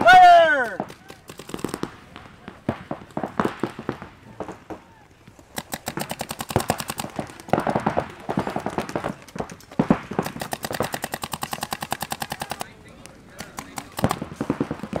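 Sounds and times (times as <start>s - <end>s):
paintball markers firing: 0.2s - 15.0s.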